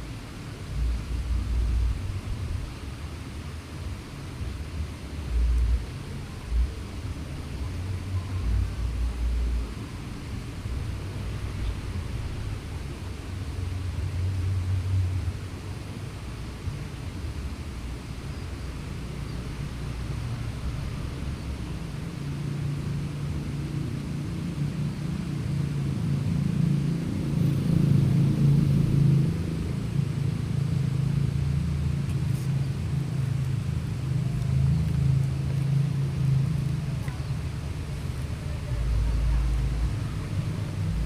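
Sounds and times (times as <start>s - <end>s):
low engine hum: 0.0s - 41.0s
vehicles rumbling on a bridge: 0.0s - 41.0s.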